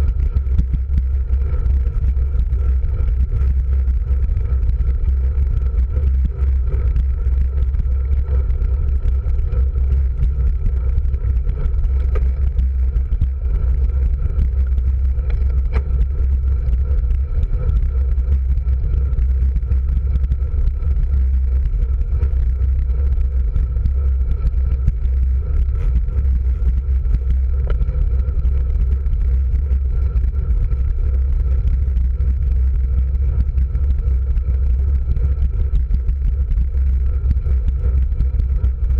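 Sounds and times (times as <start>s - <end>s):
tyres humming on asphalt: 0.0s - 38.9s
wind rumbling on microphone: 0.0s - 38.9s.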